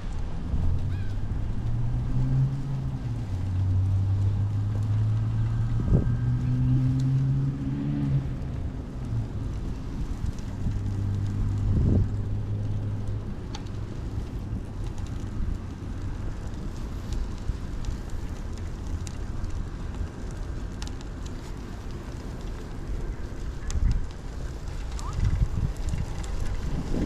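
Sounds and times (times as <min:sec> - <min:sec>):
road traffic engines humming: 0:00.0 - 0:27.0
wind noise on microphone: 0:00.0 - 0:27.0.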